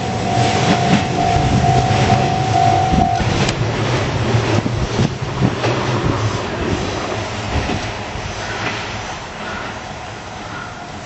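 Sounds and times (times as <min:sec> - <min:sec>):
wheels clicking over rail joints: 0:00.0 - 0:10.7
electric train running on track: 0:00.0 - 0:11.0.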